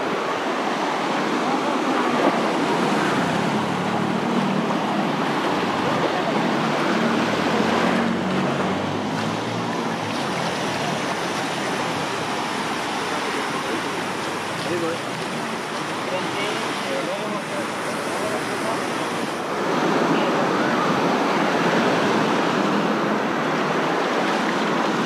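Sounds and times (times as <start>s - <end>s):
crowd chatter on beach: 0.0s - 25.0s.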